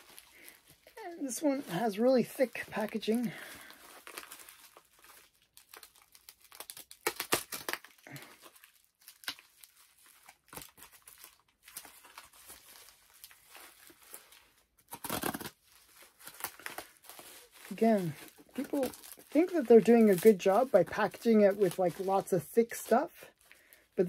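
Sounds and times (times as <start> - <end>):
packaging tearing: 0.0 - 23.9
packaging crinkling and rustling: 0.0 - 24.0.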